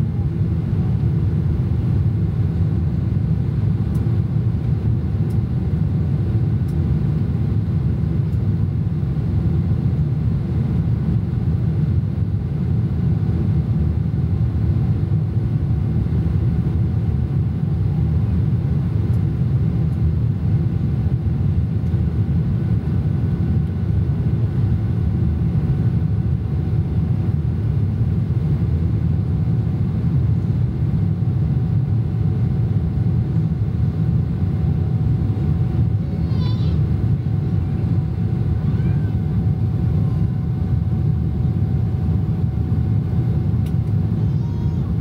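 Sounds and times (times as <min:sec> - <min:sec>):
faint hum tone: 0:00.0 - 0:45.0
low engine drone: 0:00.0 - 0:45.0.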